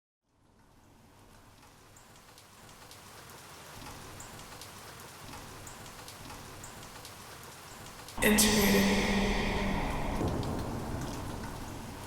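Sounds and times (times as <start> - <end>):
rain-like hiss with drop ticks: 0.3 - 12.0.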